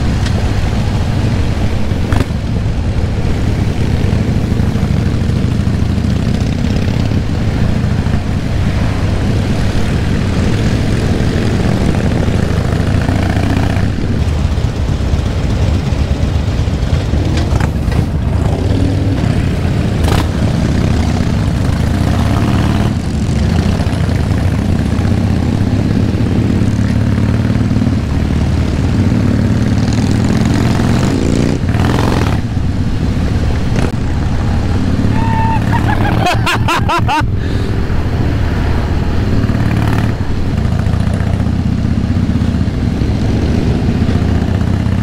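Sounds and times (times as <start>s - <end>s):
motorcycle engine running: 0.0s - 35.1s, 38.4s - 45.0s
other motorcycles: 0.0s - 45.0s.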